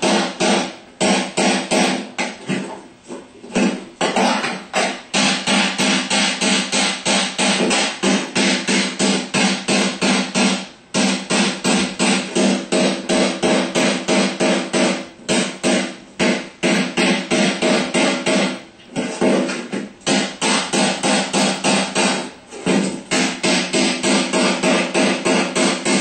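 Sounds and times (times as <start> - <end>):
hammer tapping on metal: 3.6 - 18.6, 19.2 - 26.0.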